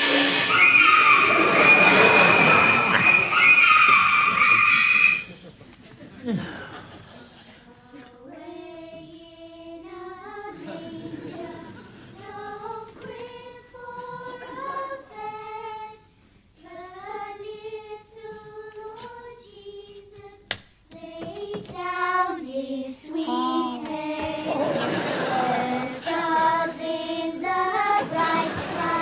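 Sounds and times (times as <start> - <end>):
children singing a carol: 0.0 - 5.2, 7.6 - 29.0.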